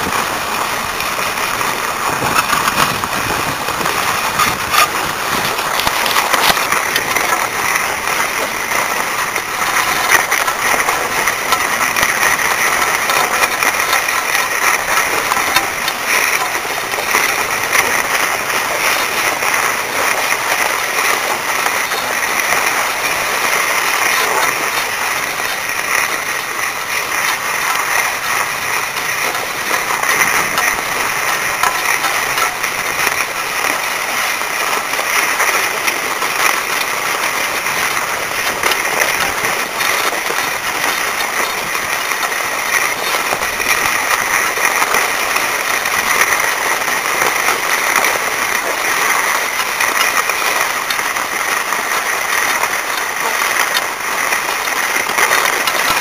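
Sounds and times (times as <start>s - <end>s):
skis scraping on hard snow: 0.0s - 56.0s.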